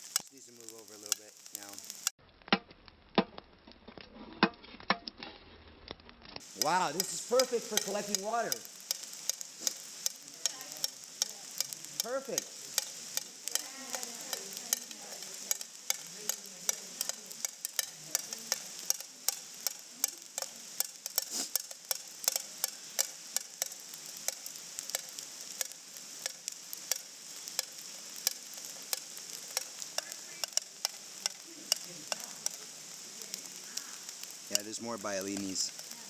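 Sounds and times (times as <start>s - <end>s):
rain hiss: 0.0s - 2.2s, 6.4s - 36.0s.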